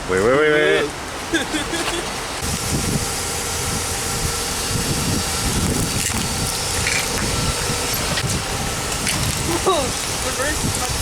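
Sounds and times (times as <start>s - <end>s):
constant hiss: 0.0s - 11.0s
car reversing rumble: 1.2s - 11.0s.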